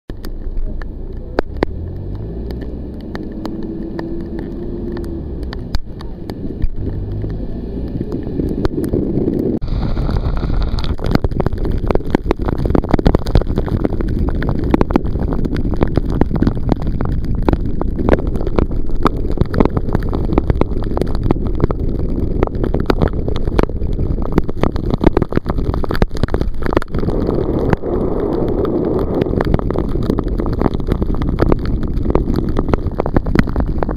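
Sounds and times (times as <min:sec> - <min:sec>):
raindrops ticking on microphone: 0:00.1 - 0:33.9
tyres on wet road: 0:00.1 - 0:33.9
wind buffeting microphone: 0:01.4 - 0:33.9.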